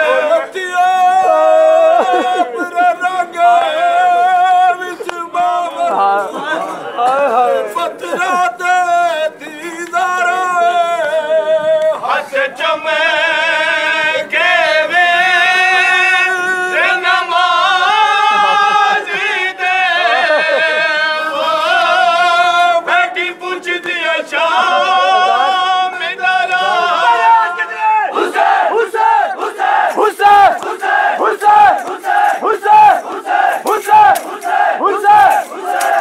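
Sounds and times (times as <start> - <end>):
man chanting a lament: 0.0 - 36.0.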